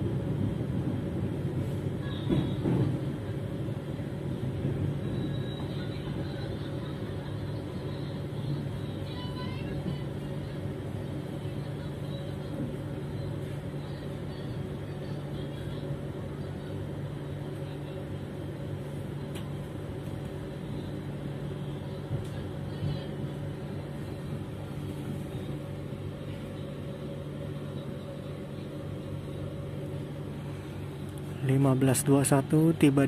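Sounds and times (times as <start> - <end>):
train coach running hum and rumble: 0.0 - 33.0.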